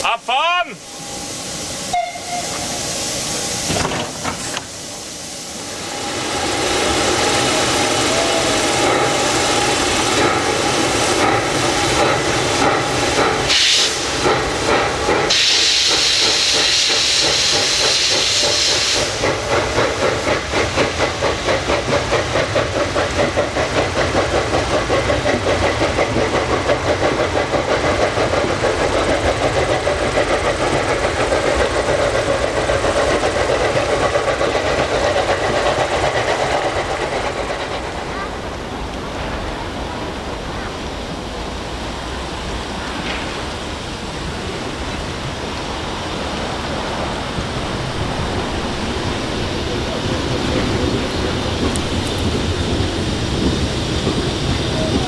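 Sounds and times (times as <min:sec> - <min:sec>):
steam hiss: 0:00.0 - 0:55.0
steam locomotive chuffing: 0:00.0 - 0:55.0.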